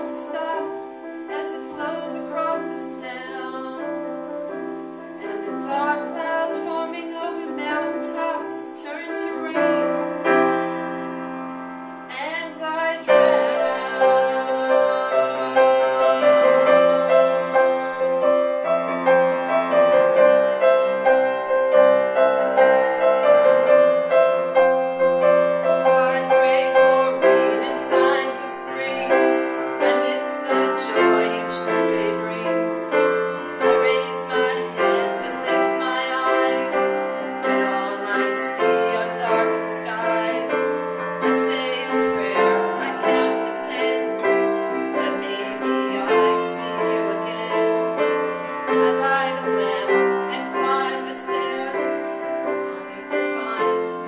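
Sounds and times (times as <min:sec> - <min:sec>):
piano piece: 0:00.0 - 0:54.0.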